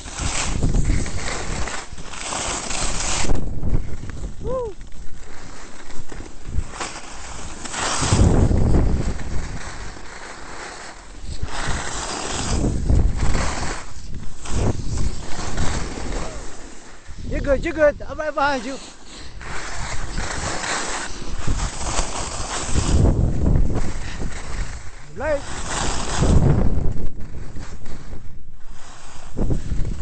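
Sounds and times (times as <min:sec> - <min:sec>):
wind over microphone: 0:00.0 - 0:10.1, 0:11.0 - 0:30.0
snowboard scraping on snow: 0:00.0 - 0:30.0.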